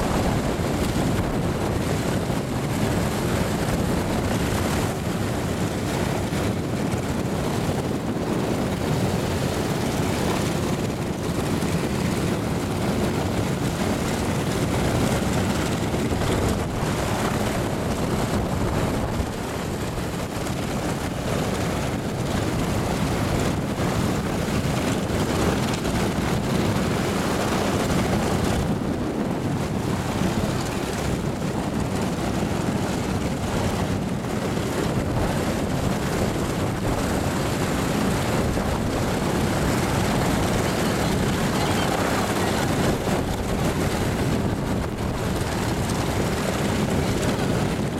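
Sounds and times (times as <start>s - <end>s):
propeller plane engines running: 0.0s - 47.9s.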